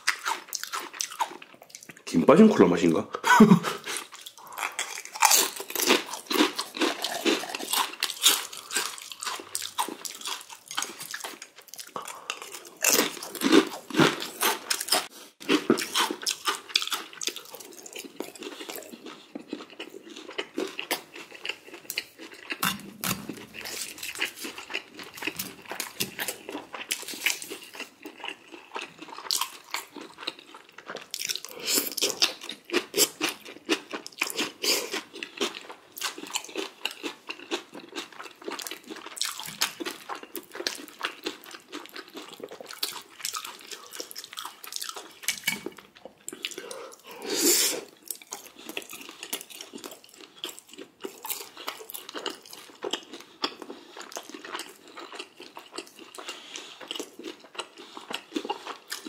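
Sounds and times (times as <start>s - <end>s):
crunchy food being chewed: 0.0s - 2.3s, 3.7s - 59.0s.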